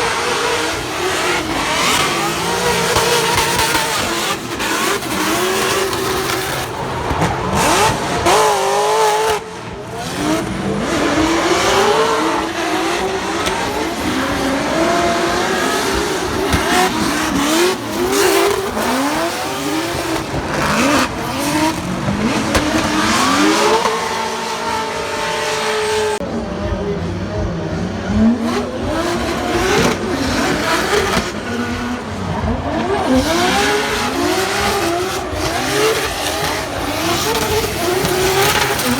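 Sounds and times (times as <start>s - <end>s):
car engines revving hard: 0.0s - 38.9s.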